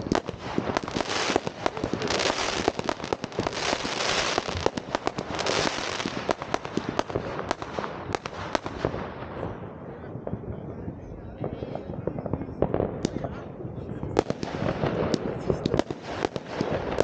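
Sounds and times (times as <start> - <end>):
fireworks banging: 0.0 - 17.0
rapid firecracker crackling: 0.0 - 17.0.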